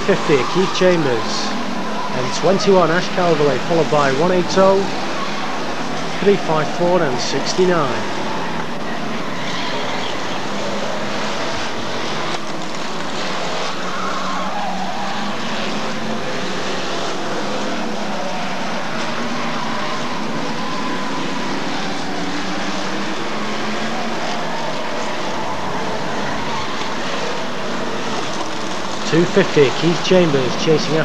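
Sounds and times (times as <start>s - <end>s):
racing car engines droning: 0.0s - 31.0s.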